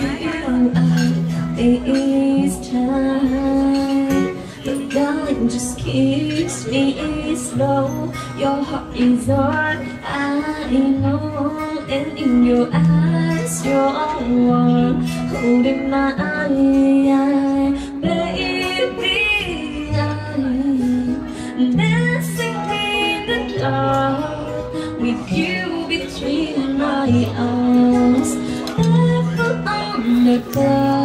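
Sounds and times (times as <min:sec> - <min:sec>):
acoustic guitar: 0:00.0 - 0:31.0
woman singing slow ballad: 0:00.0 - 0:31.0.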